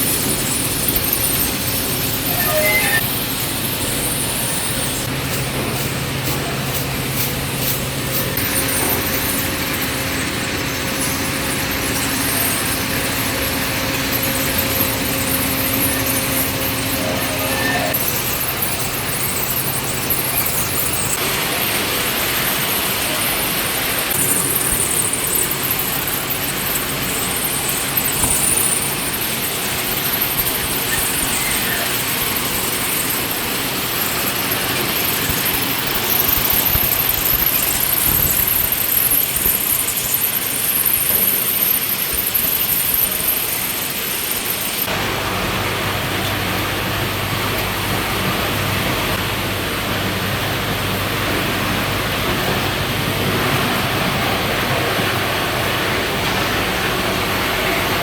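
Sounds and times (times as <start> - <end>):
industrial machinery running: 0.0 - 58.0.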